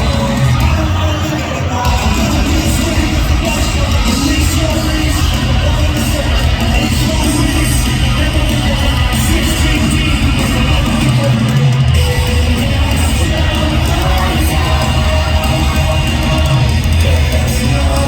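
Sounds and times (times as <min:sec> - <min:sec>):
crowd noise: 0:00.0 - 0:18.0
heavy rock band playing: 0:00.0 - 0:18.0.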